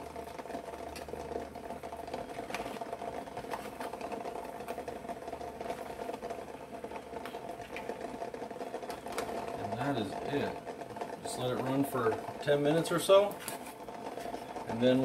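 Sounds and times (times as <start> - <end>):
eggs rattling against pot: 0.0 - 15.0
water boiling in a pot: 0.0 - 15.0.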